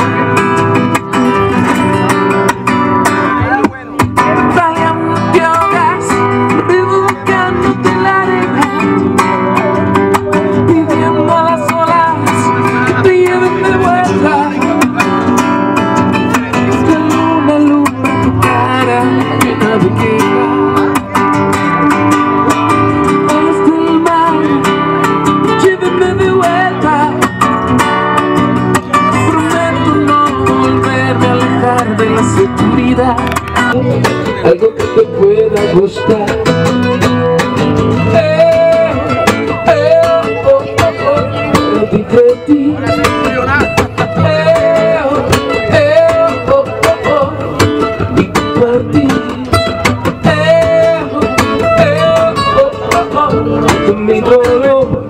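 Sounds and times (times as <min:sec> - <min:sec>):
acoustic guitar strummed and plucked: 0:00.0 - 0:55.0
person singing: 0:00.0 - 0:55.0.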